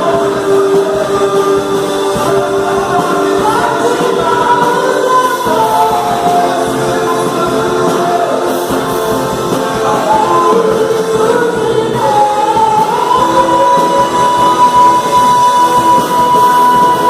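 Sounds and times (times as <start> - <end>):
singing over a full band or choir: 0.0 - 17.0.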